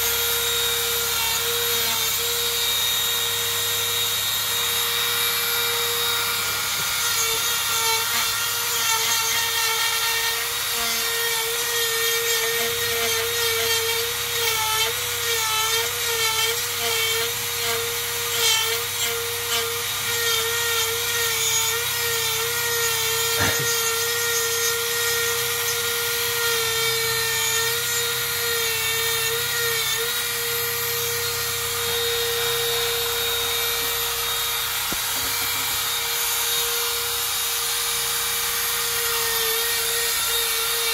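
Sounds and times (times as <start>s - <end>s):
rotary tool grinding wood: 0.0s - 40.9s.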